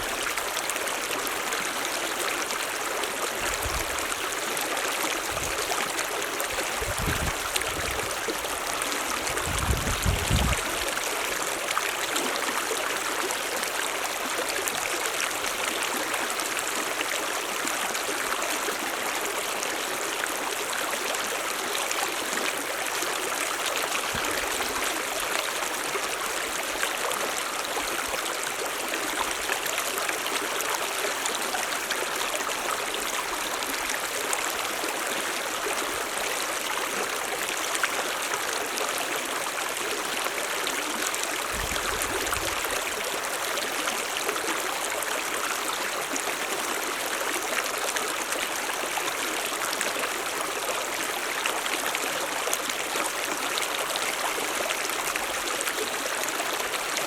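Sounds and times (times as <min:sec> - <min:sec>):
stream of running water: 0:00.0 - 0:57.0.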